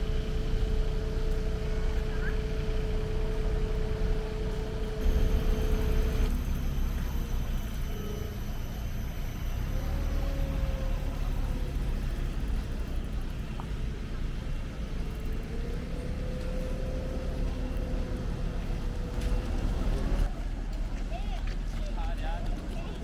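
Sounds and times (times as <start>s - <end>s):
faint engine tone: 0.0s - 21.1s
road traffic rumble: 0.0s - 23.0s.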